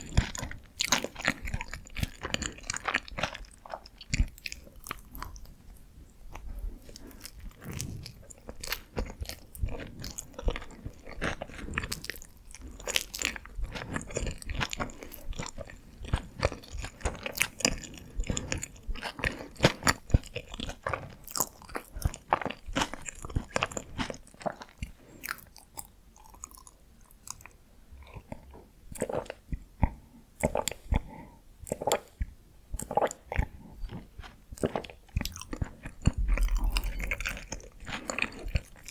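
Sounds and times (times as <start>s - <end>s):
person chewing with mouth clicks: 0.0s - 38.9s.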